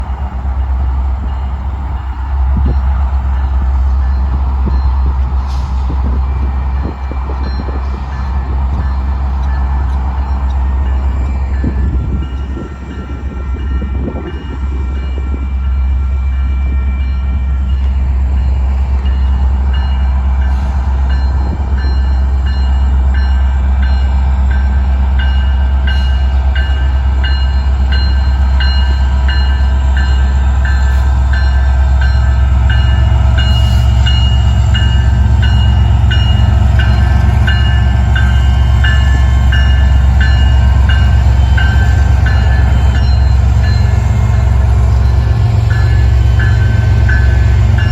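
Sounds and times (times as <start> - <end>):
locomotive engine rumble: 0.0 - 47.9.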